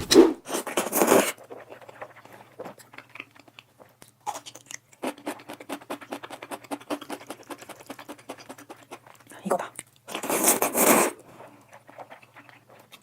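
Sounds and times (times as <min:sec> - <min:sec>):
person chewing noodles: 0:00.0 - 0:13.0.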